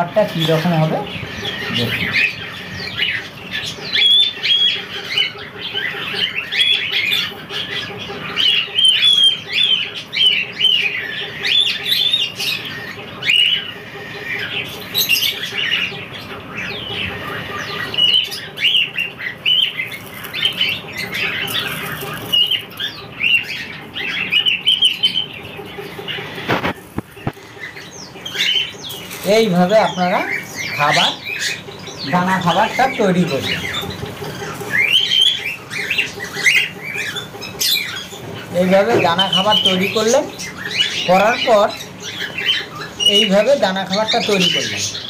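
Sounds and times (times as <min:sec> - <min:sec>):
birds chirping and squawking: 0:00.0 - 0:45.0.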